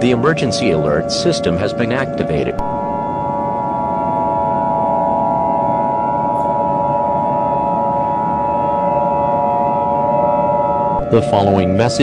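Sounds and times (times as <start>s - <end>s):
low background drone: 0.0s - 12.0s.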